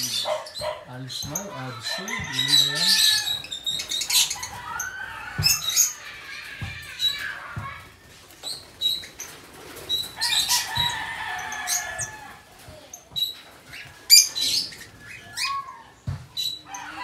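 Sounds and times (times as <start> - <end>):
lovebirds chirping and squawking: 0.0 - 17.0
wings flapping: 0.6 - 15.6.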